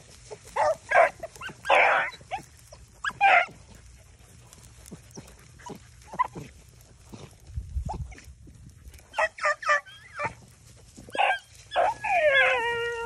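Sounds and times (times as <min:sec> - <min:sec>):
hounds baying and barking: 0:00.0 - 0:13.0.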